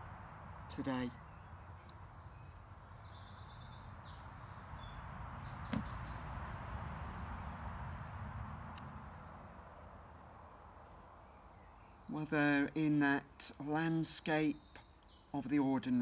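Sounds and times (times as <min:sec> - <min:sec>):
small birds twittering: 0:00.0 - 0:06.8, 0:08.1 - 0:16.0
low steady background rumble: 0:00.0 - 0:16.0.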